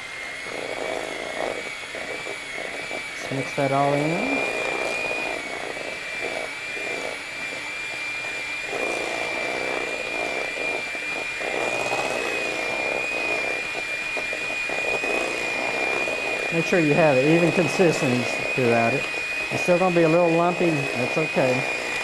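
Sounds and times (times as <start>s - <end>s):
beaters churning batter: 0.0s - 22.0s
electric hand mixer whining: 0.0s - 22.0s.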